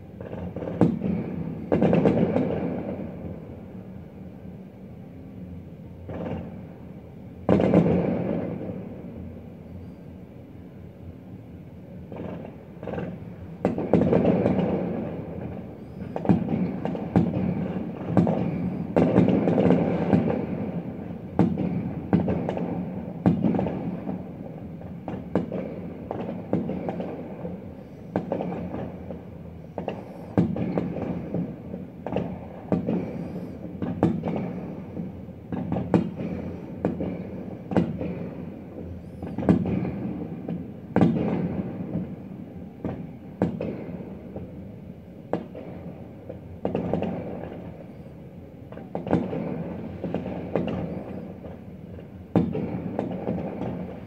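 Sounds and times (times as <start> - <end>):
fireworks bursting with echo: 0.0 - 3.9, 6.0 - 6.6, 7.4 - 9.3, 12.1 - 54.0.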